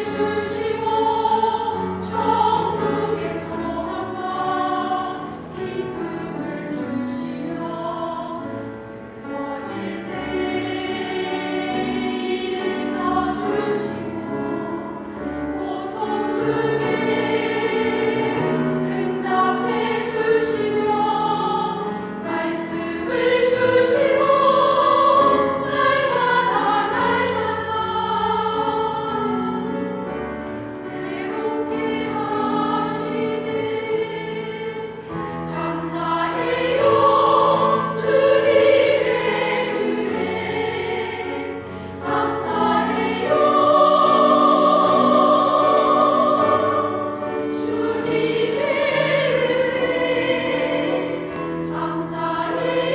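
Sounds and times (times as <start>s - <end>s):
vocal ensemble singing gospel: 0.0s - 52.9s.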